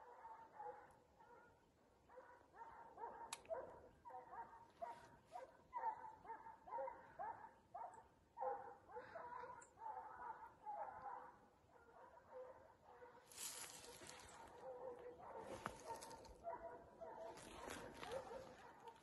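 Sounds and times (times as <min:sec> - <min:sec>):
hounds barking faintly: 0:00.0 - 0:19.0.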